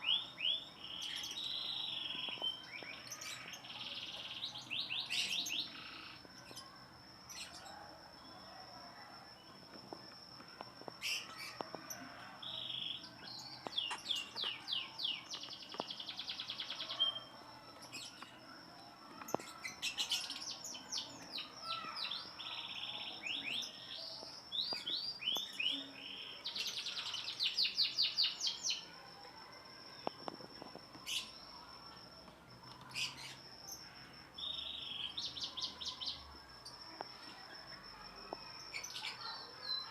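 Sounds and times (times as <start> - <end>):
lovebirds chirping: 0.0 - 31.8, 32.7 - 37.2.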